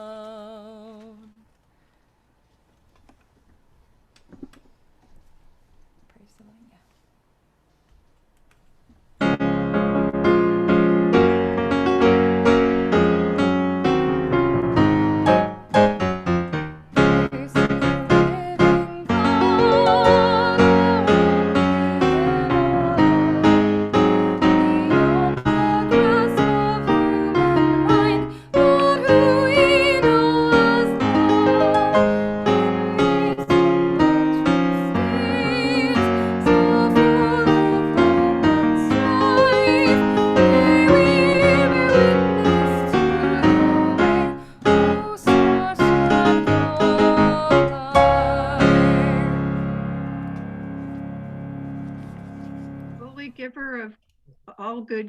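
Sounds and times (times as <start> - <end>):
piano music: 9.2 - 53.8.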